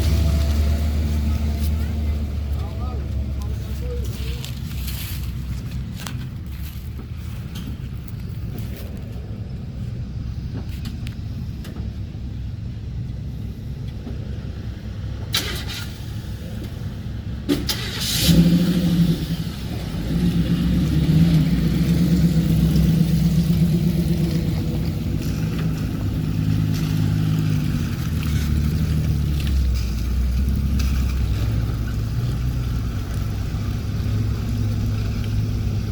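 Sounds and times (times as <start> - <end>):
pickup truck engine rumble: 0.0 - 35.9.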